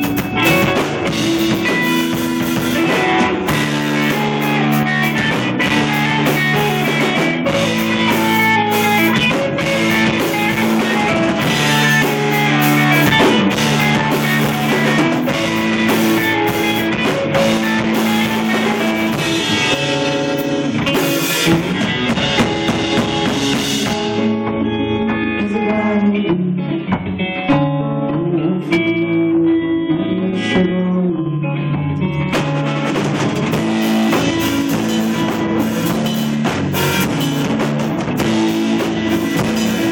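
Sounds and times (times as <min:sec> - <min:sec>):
drum kit: 0:00.0 - 0:27.8, 0:32.0 - 0:39.9
electric bass: 0:00.0 - 0:39.9
electric guitar: 0:00.0 - 0:39.9.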